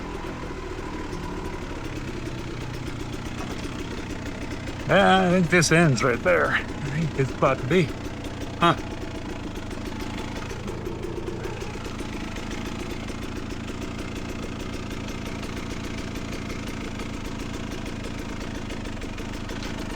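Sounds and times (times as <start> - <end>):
dirt bike engine idling: 0.0 - 19.9.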